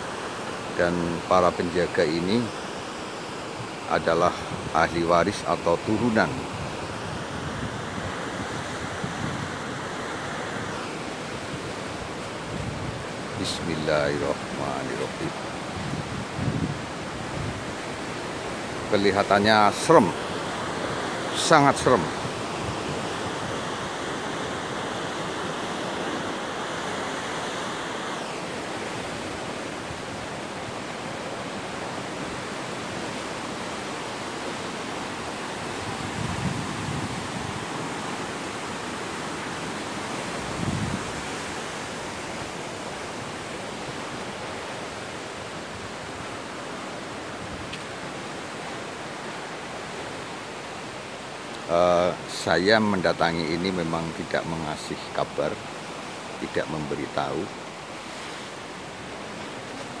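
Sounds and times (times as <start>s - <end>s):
surf breaking on rocky shore: 0.0s - 60.0s.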